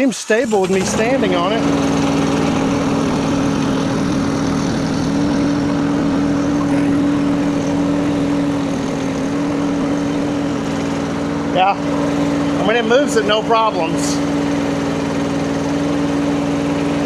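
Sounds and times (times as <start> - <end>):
skid steer engine humming: 0.5 - 17.0.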